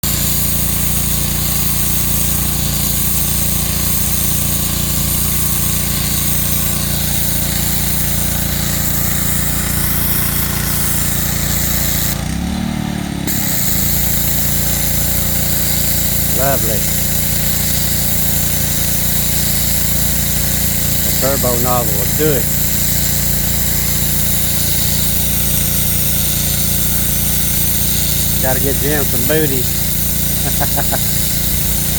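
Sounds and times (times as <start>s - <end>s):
hiss of water spray: 0.0s - 12.2s, 13.3s - 31.9s
pressure washer engine drone: 0.0s - 31.9s.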